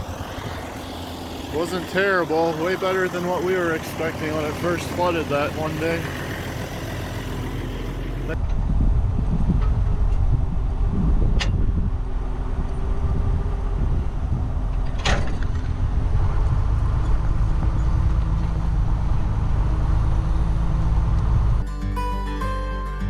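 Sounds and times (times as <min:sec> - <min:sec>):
tractor engine droning: 0:00.0 - 0:21.6.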